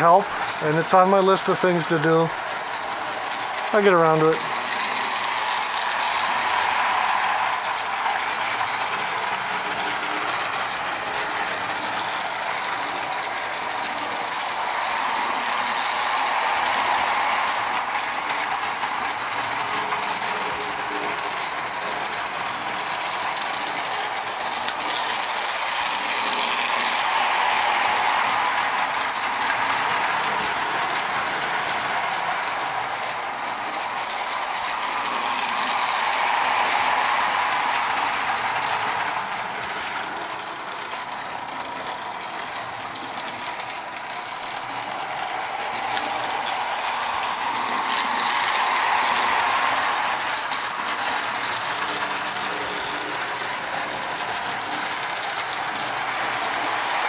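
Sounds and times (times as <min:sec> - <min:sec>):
toy train clattering whir: 0:00.0 - 0:57.0.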